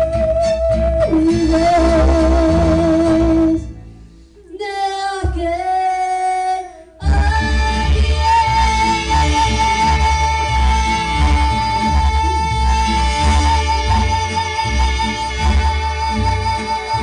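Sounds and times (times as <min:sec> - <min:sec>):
woman singing into microphone: 0:00.0 - 0:03.8, 0:04.4 - 0:17.0
recorded backing track: 0:00.0 - 0:17.0.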